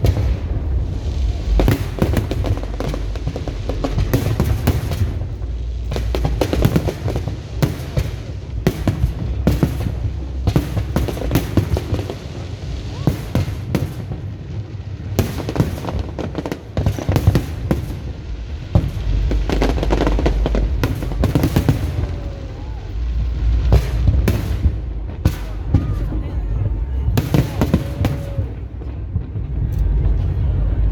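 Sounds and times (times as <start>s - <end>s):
deep rumble of shell bursts: 0.0s - 14.3s, 15.2s - 30.9s
fireworks bangs and crackles: 0.0s - 30.9s.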